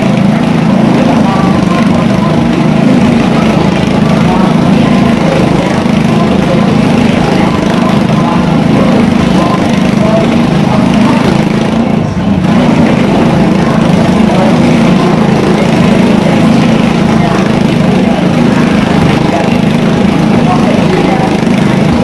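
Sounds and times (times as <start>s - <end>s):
motorcycle engine running hard: 0.0s - 22.0s.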